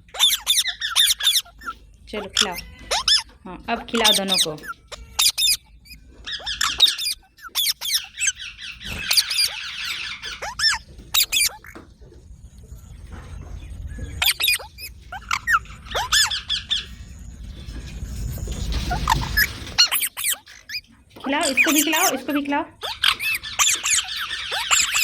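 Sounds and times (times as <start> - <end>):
parakeets squeaking and chirping: 0.0 - 25.0.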